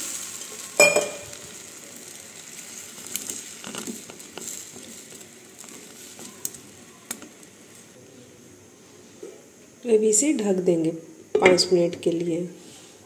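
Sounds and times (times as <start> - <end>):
faint sizzling in a pan: 0.0 - 13.0.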